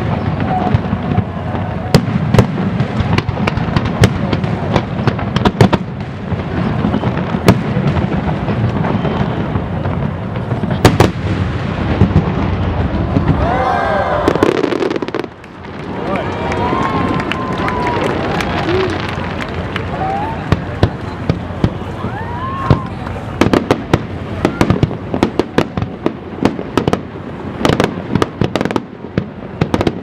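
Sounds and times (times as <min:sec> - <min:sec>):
fireworks bursting: 0:00.0 - 0:30.0
fireworks crackle: 0:00.0 - 0:30.0.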